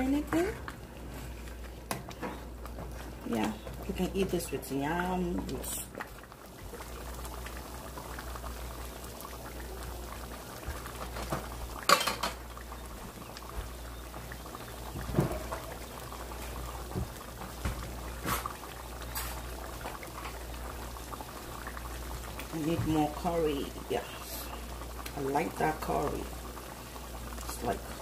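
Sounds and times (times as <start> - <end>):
thick sauce bubbling in a pot: 0.0 - 28.0.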